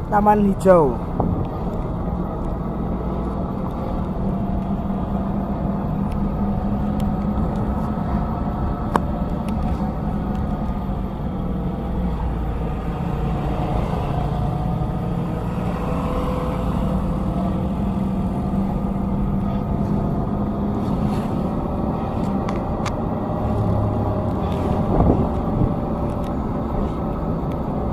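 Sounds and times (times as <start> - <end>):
vehicle engine droning: 0.0 - 27.9.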